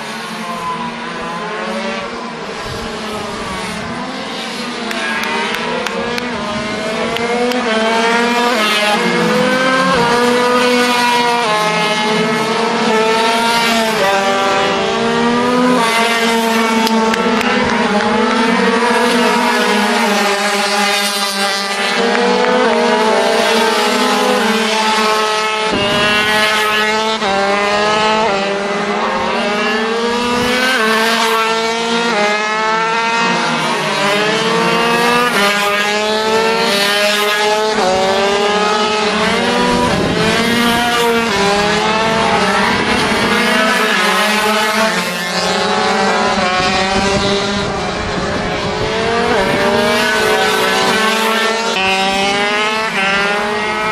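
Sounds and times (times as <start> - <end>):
two-stroke minibike engines accelerating: 0.0 - 53.9.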